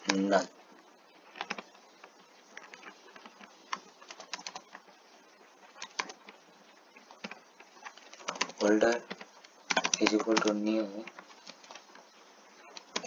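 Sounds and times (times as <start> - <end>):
keyboard typing: 0.0 - 0.5, 1.2 - 5.0, 5.7 - 13.0.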